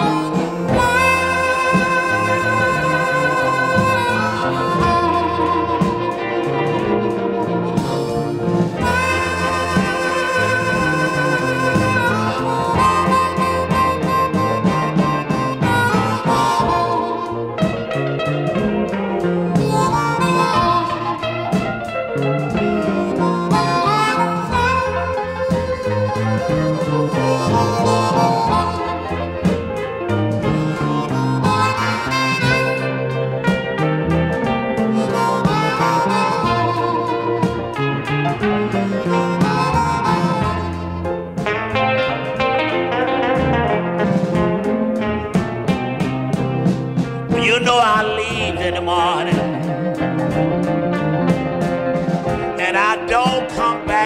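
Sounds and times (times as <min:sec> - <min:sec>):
drums: 0:00.0 - 0:54.0
held lead guitar notes: 0:00.0 - 0:54.0
walking bass line: 0:00.0 - 0:54.0.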